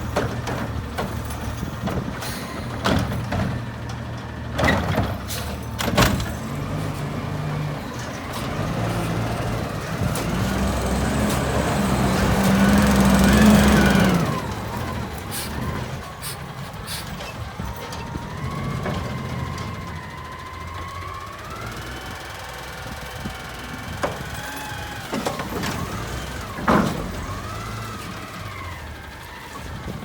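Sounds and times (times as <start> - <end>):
garbage truck engine drone: 0.0 - 30.0.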